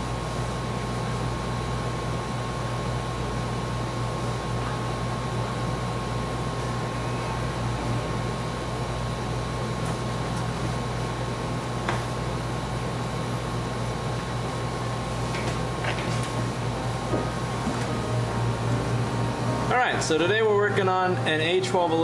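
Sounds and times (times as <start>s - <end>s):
machine hum and whir: 0.0s - 22.0s.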